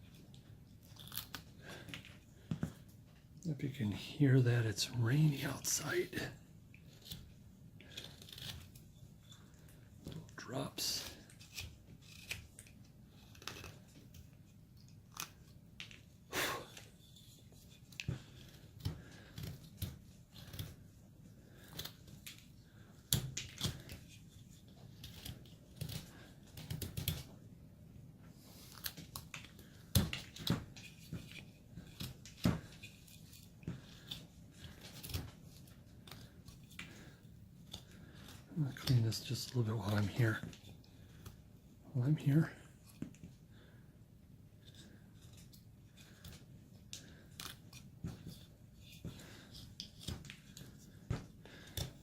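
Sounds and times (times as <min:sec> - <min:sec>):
knife carving wood: 0:00.0 - 0:02.9, 0:03.8 - 0:27.4, 0:28.3 - 0:52.0.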